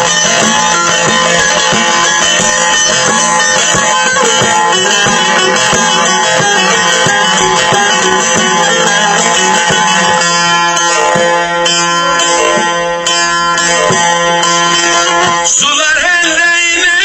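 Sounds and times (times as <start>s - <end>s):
amplified saz folk tune: 0.0s - 17.0s.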